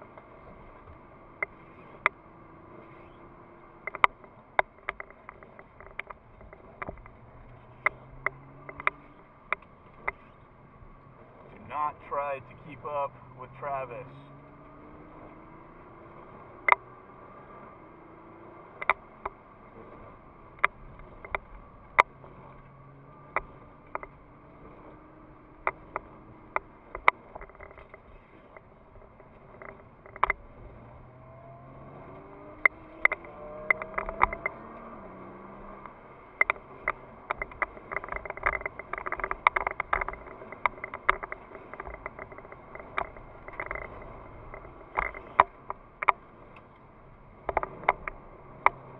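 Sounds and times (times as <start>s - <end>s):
car engine from inside cabin: 0.0s - 48.9s
sharp irregular clicks and knocks: 0.0s - 48.9s.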